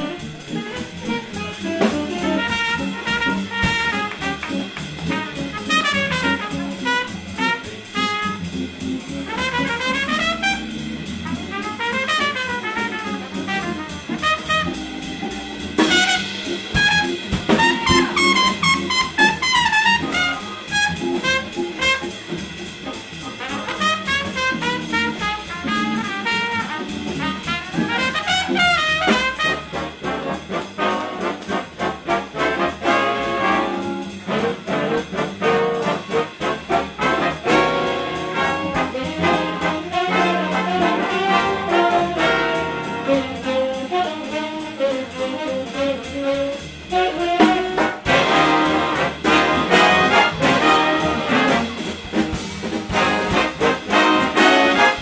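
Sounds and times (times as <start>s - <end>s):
trumpet solo: 0.0s - 8.6s, 9.2s - 22.3s, 23.2s - 52.2s, 52.9s - 55.0s
big band playing swing jazz: 0.0s - 55.0s.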